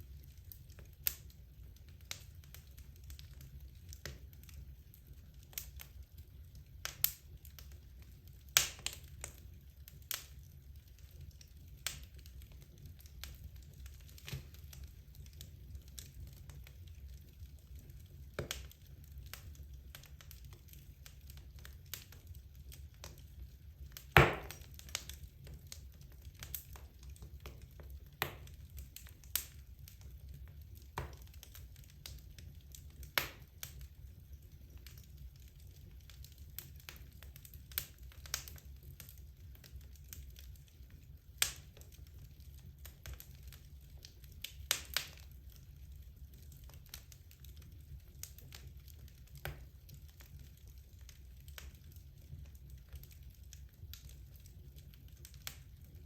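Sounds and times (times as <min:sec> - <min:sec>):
low fire rumble: 0:00.0 - 0:56.0
wood logs crackling and popping: 0:00.0 - 0:56.0.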